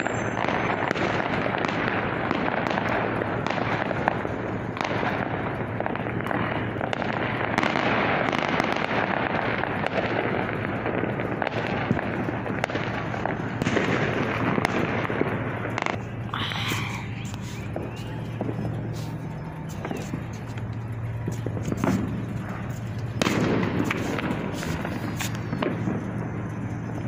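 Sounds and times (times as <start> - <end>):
fireworks bangs: 0.0 - 27.0
fireworks crackling: 0.0 - 27.0.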